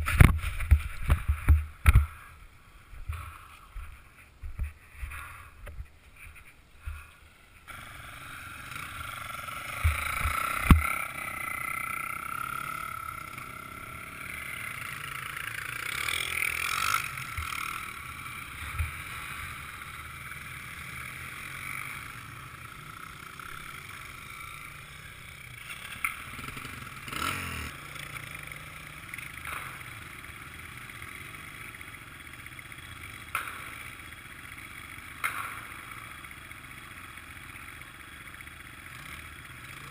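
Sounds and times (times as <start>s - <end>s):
muffled motorcycle engine: 0.0s - 39.9s.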